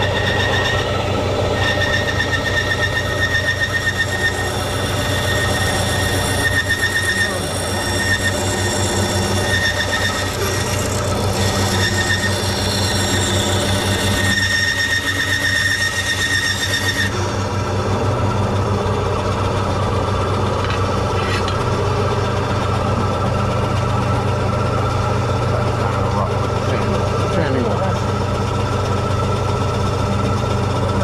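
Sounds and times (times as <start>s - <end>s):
electric sander on wood: 0.0s - 31.0s.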